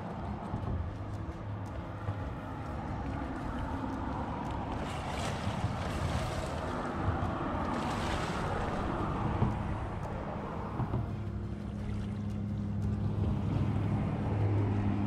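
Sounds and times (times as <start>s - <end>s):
water sloshing against rocks: 0.0s - 14.8s
splashing of wading: 0.0s - 15.0s
wind buffeting microphone: 0.0s - 15.0s.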